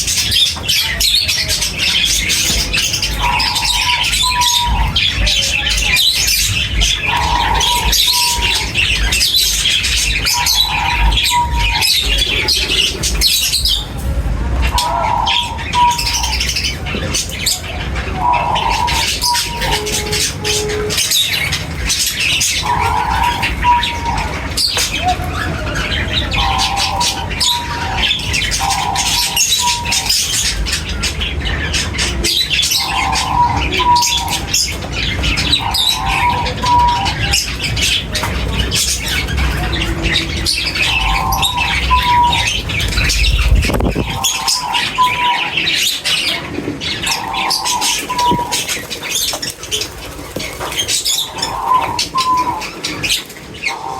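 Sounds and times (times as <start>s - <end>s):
birds chirping and squawking: 0.0s - 53.9s
low rumble: 1.7s - 45.7s.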